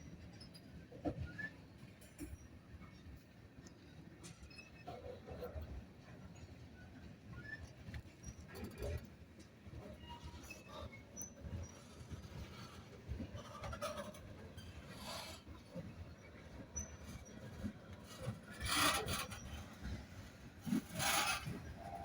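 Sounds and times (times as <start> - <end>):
low train rumble: 0.0 - 22.0
train rasping and scraping: 0.0 - 22.0.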